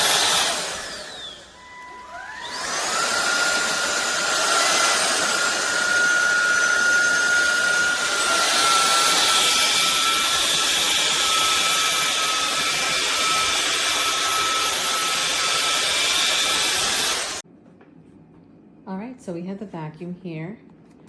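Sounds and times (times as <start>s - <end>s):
stick vacuum running: 0.0s - 17.4s.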